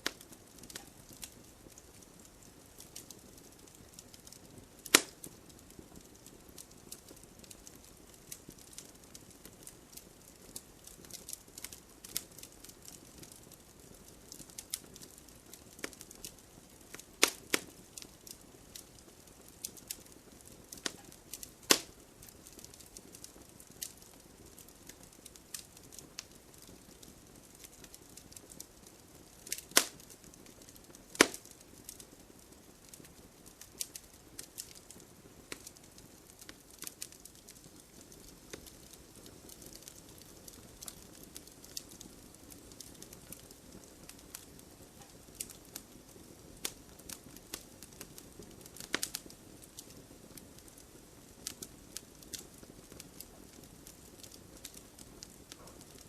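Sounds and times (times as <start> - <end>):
campfire crackling and popping: 0.0 - 56.0
faint steady hiss: 0.0 - 56.0.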